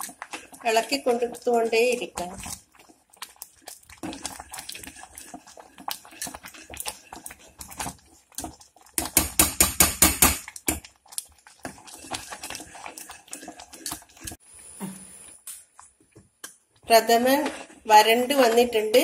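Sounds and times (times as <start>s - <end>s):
spoon scraping pot: 0.0s - 15.4s, 16.9s - 19.0s.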